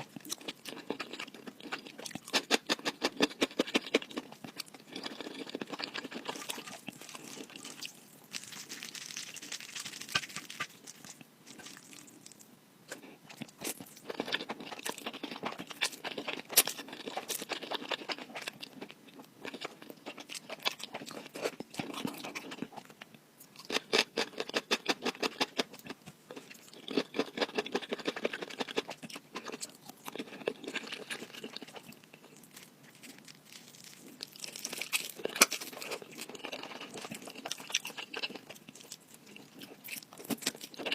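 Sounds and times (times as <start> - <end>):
crunchy bites and chewing: 0.0 - 23.0, 23.6 - 40.9.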